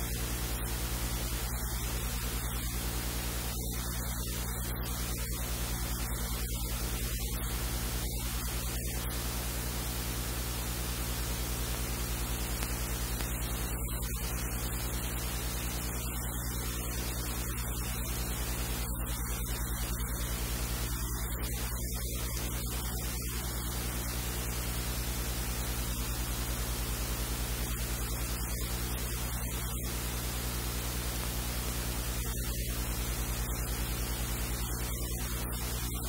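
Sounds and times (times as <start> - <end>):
low electrical hum: 0.0 - 36.0
static hiss: 0.0 - 36.0.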